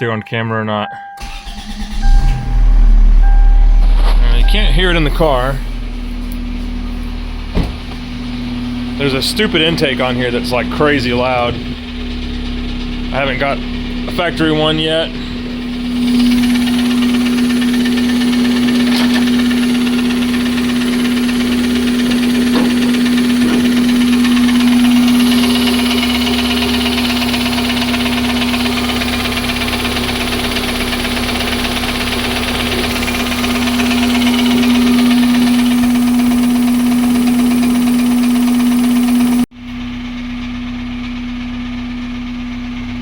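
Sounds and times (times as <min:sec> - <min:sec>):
loud intake noise: 0:01.2 - 0:39.5
car engine knocking: 0:04.4 - 0:43.0.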